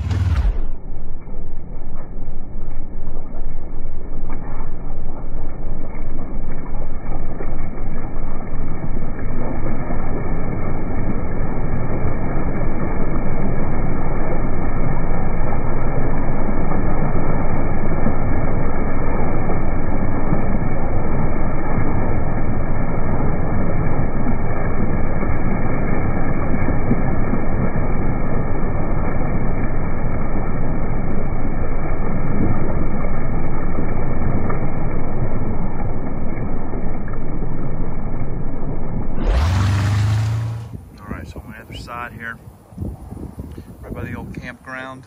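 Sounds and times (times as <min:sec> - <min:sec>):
vehicle rumbling through mud: 0:00.0 - 0:45.0.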